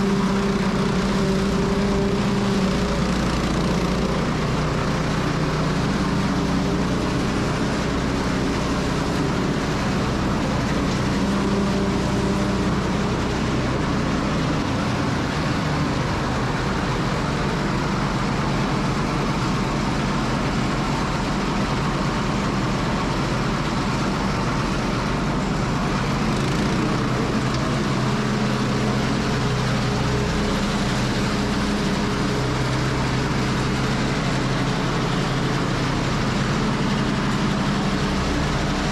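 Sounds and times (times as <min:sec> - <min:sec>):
bedding chopper motor drone: 0:00.0 - 0:38.9.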